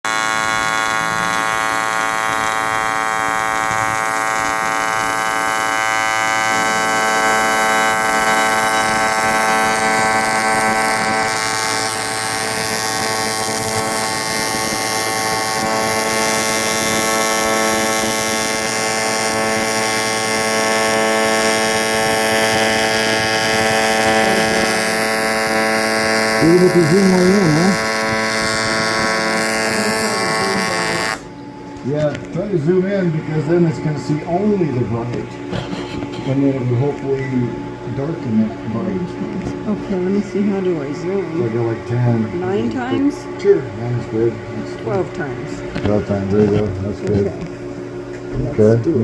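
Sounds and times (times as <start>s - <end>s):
electric welder buzzing: 0.0s - 49.0s.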